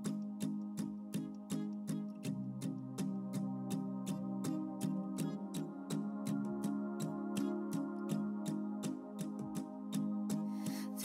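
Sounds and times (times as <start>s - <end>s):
slow sustained instrumental music: 0.0s - 11.0s.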